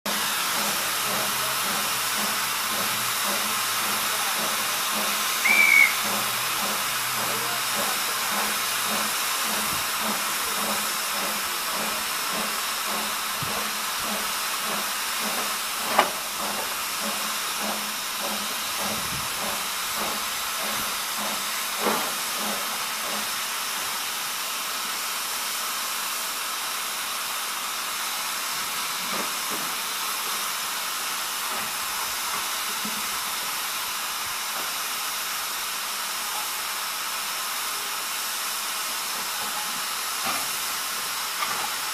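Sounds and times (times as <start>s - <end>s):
steam locomotive hissing steam: 0.1s - 41.9s.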